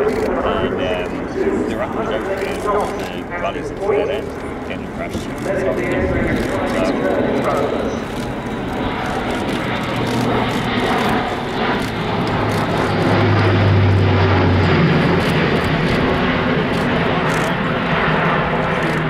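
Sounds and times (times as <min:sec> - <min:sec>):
propeller aircraft drone: 0:00.0 - 0:19.0.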